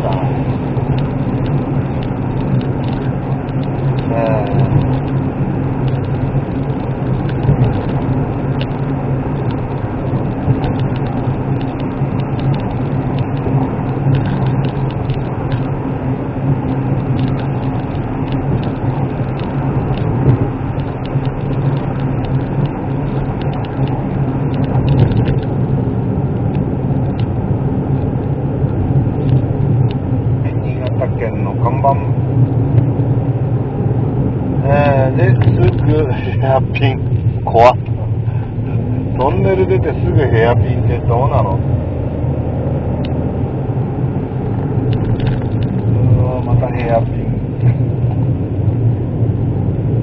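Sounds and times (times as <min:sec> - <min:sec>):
car engine running: 0:00.0 - 0:50.0
road and tyre noise: 0:00.0 - 0:50.0.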